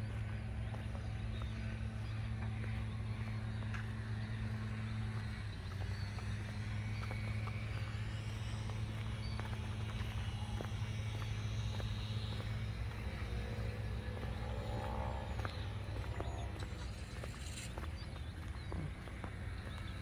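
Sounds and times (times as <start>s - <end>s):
footsteps on a path: 0.0s - 20.0s
low engine-like hum: 0.0s - 20.0s.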